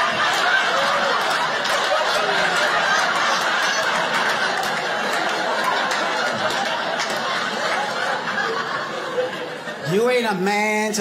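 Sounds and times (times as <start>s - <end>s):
audience laughing: 0.0s - 10.4s.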